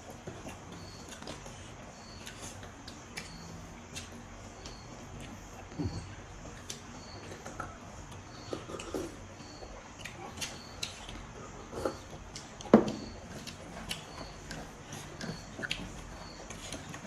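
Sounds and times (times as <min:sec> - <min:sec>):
wet chewing sounds: 0:00.0 - 0:17.0.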